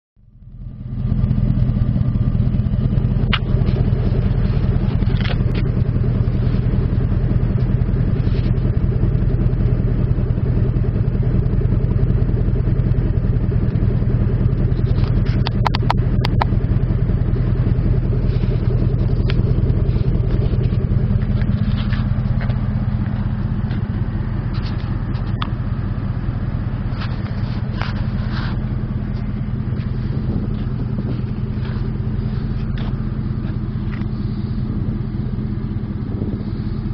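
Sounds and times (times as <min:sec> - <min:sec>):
motorcycle engine idling: 0:00.2 - 0:36.9.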